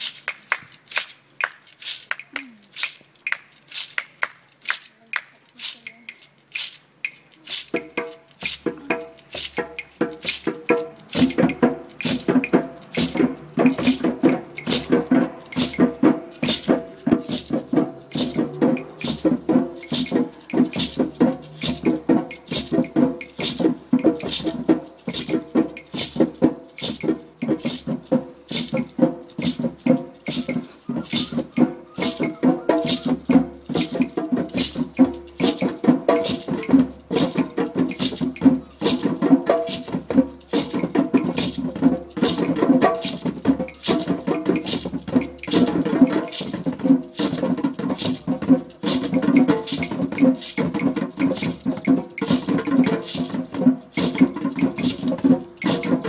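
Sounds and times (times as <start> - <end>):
hand drumming: 7.0 - 56.0.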